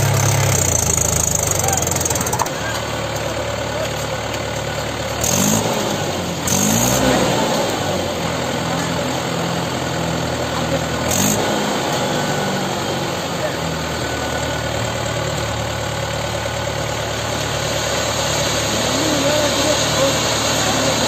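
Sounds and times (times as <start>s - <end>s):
engine revving: 0.0s - 3.0s, 5.0s - 21.0s
tractor diesel engine idling: 0.0s - 21.0s.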